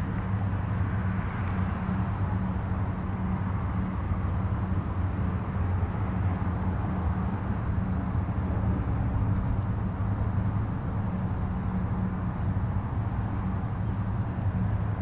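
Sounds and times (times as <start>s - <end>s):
distant highway traffic: 0.0s - 15.0s.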